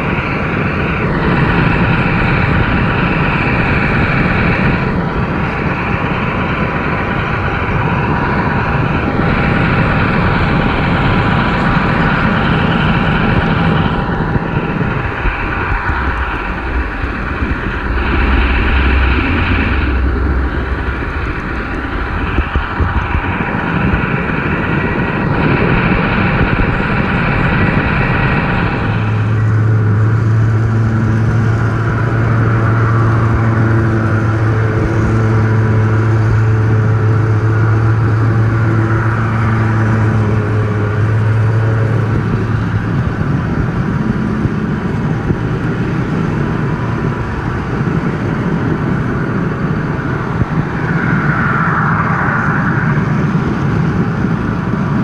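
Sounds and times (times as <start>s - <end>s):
train rumble and hum: 0.0s - 55.0s.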